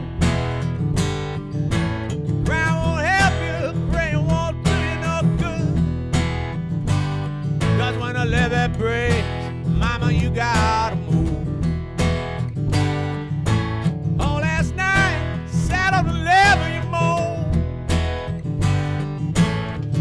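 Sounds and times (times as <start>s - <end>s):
strummed acoustic guitar chords: 0.0s - 20.0s.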